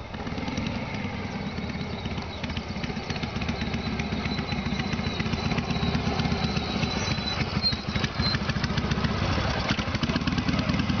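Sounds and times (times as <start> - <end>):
motorcycle engine low revs: 0.0 - 11.0.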